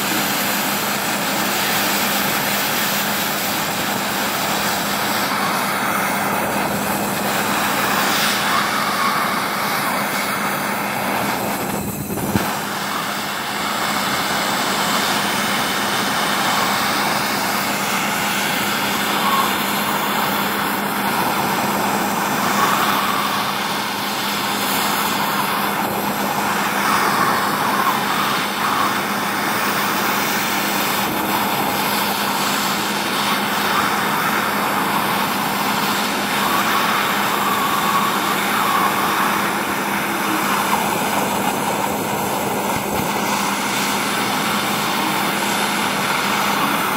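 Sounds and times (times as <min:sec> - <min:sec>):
gas torch flame rushing: 0:00.0 - 0:46.9.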